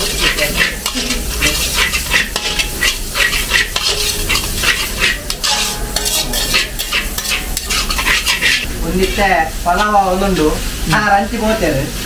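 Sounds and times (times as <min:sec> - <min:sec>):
metal ladle scraping wok: 0:00.0 - 0:10.9
stir-fry sizzle: 0:00.0 - 0:12.0.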